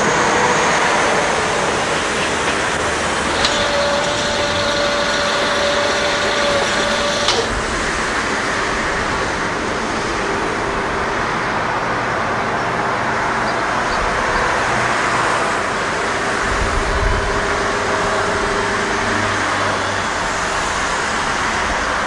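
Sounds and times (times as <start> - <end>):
deeper rumble: 0.0 - 22.0
distant rail vehicle rumbling: 0.0 - 22.0.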